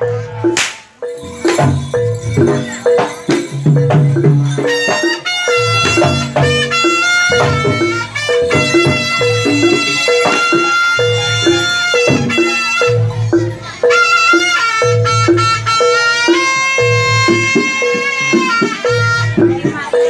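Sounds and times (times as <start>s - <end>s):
gamelan percussion pattern: 0.0s - 20.0s
shrill reed pipe melody: 0.0s - 20.0s.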